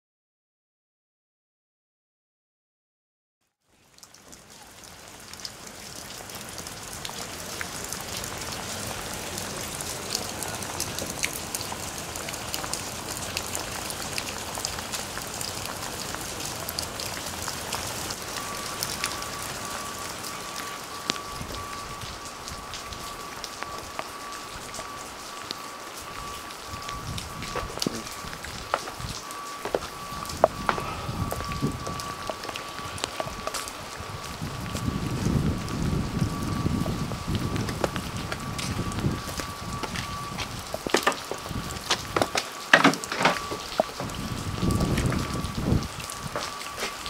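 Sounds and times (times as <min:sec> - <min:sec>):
rain pattering on hard surfaces: 0:03.7 - 0:47.0.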